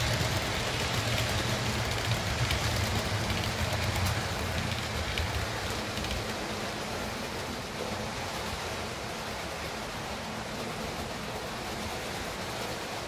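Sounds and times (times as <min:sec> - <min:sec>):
train wheels clicking over rail joints: 0:00.0 - 0:13.0.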